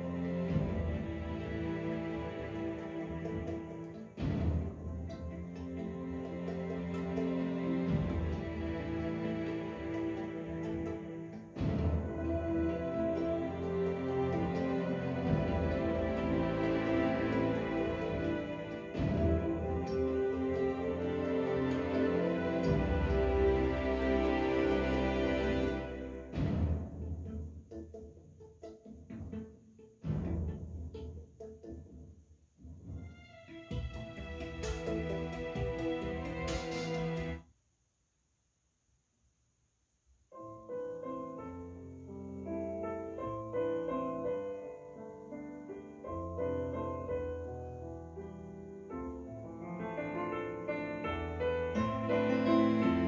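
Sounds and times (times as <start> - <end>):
slow instrumental music: 0.0 - 32.0, 32.9 - 37.4, 40.4 - 53.0.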